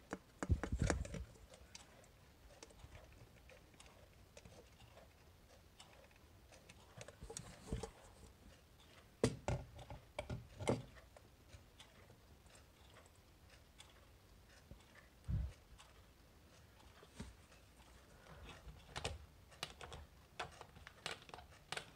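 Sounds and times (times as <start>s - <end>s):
wall clocks ticking: 0.0s - 21.9s.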